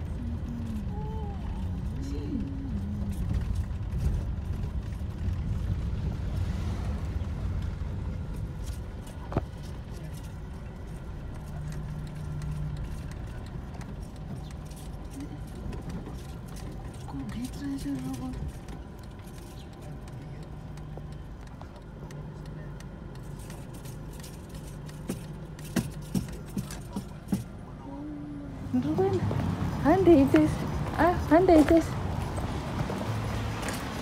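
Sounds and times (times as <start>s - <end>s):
car driving over rough road: 0.0s - 27.9s, 28.6s - 34.0s.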